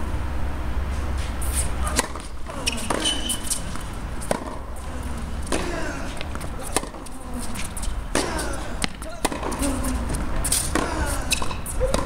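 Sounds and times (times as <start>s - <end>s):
rackets striking tennis ball: 1.2s - 12.0s.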